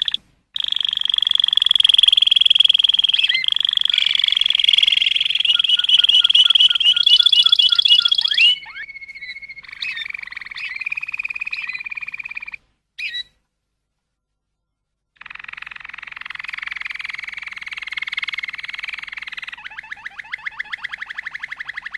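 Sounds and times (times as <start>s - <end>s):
bird trilling and chirping: 0.0s - 13.4s, 15.2s - 21.9s
low steady bird trill: 0.0s - 13.4s, 15.2s - 21.9s.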